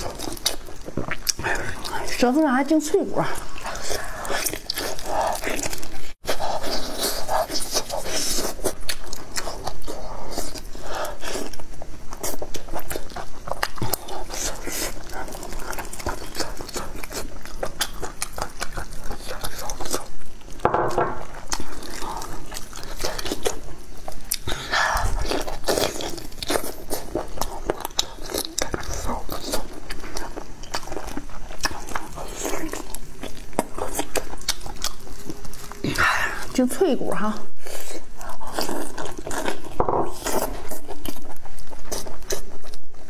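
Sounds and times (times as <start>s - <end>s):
wet crunchy chewing: 0.0s - 36.6s, 37.6s - 43.0s.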